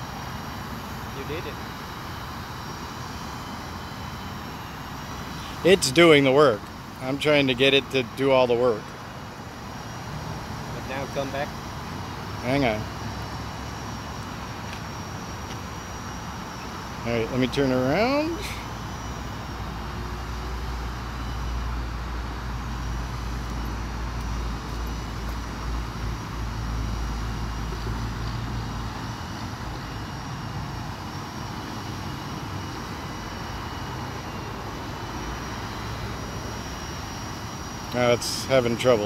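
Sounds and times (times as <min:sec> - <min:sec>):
drone rotors whining: 0:00.0 - 0:39.0.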